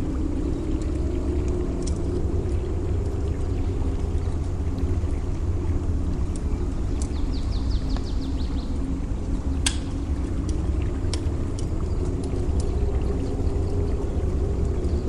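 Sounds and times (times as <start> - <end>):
surf rumble: 0.0 - 15.0.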